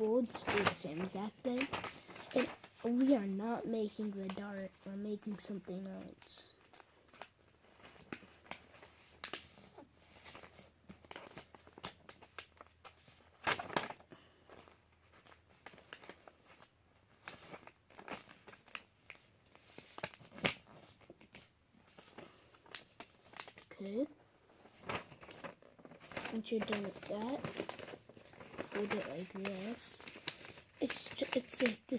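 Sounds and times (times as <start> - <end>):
paper crackles: 0.0 - 31.9
paper rustling and crinkling: 0.0 - 31.9.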